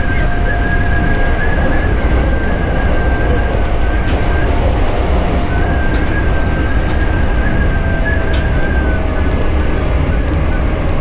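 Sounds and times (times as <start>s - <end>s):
high steady whine: 0.0s - 11.0s
train rumble: 0.0s - 11.0s.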